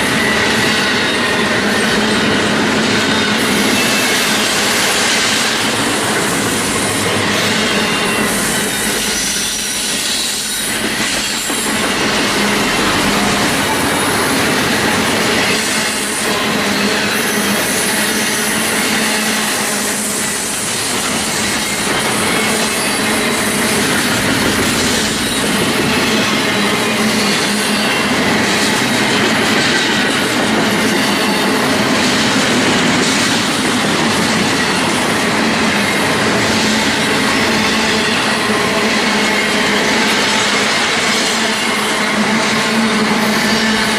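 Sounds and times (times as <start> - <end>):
freight train cars rolling: 0.0 - 43.9.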